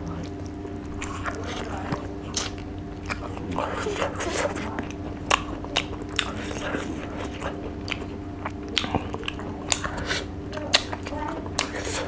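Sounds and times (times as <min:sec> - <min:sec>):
crunchy chewing: 0:00.0 - 0:12.0
low steady hum: 0:00.0 - 0:12.0
wet mouth sounds: 0:00.0 - 0:12.0.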